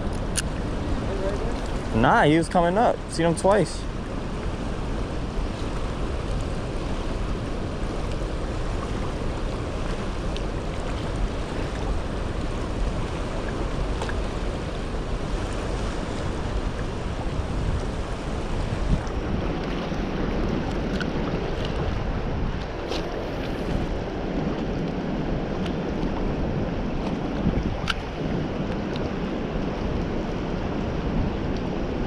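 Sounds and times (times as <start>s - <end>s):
fast-flowing river rushing: 0.0s - 32.0s
wind rumbling on microphone: 0.0s - 32.0s.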